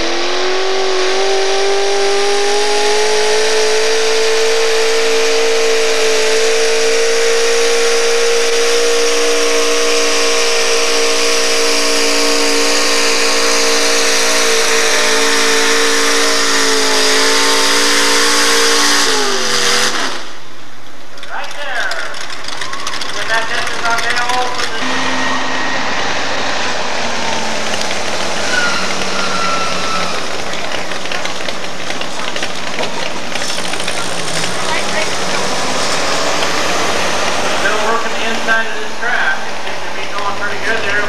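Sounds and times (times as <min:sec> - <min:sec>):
truck engine at high revs: 0:00.0 - 0:41.0.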